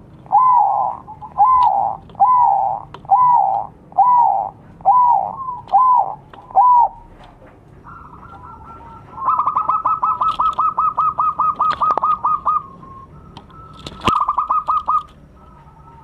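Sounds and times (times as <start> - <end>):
dove cooing staccato: 0.0 - 16.0.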